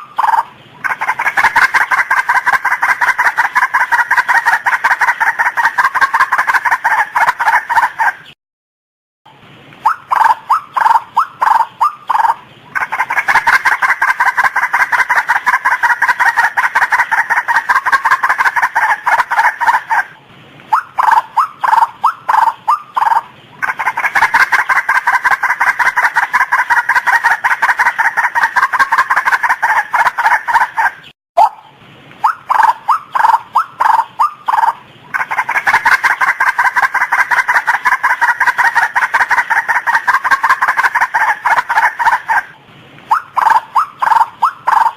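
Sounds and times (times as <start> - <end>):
bird calling repeated notes: 0.0 - 8.4, 9.8 - 44.9.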